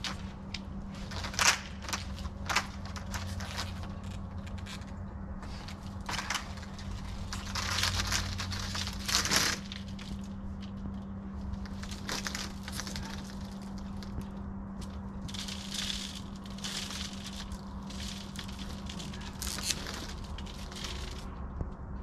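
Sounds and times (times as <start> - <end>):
plastic pipe rustling on dirt: 0.0 - 21.4
steady low hum: 0.0 - 22.0.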